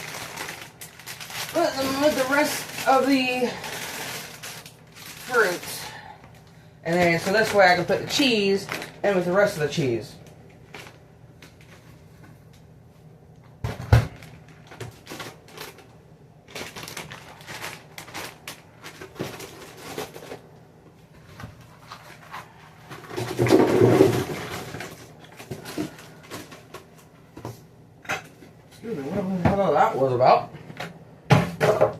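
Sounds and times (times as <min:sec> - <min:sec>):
plastic packaging rustling: 0:00.0 - 0:28.6.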